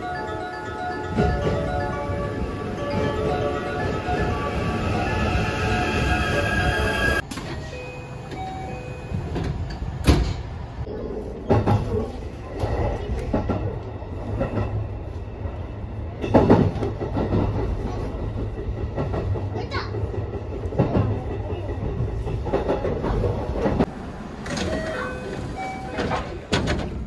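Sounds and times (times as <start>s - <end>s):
steady train tones: 0.0s - 27.0s
train rumbling: 0.0s - 27.0s.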